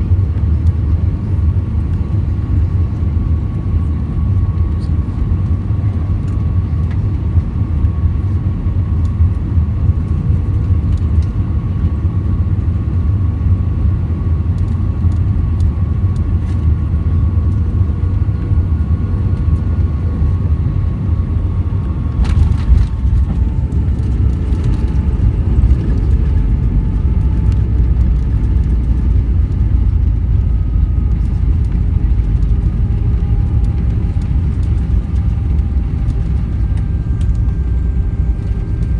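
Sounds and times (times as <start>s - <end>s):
aircraft cabin rumble: 0.0s - 38.9s
engine whine: 0.0s - 38.9s.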